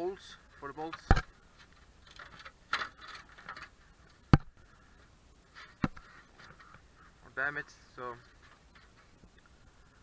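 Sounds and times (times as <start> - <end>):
soft rustling: 1.0 - 9.6.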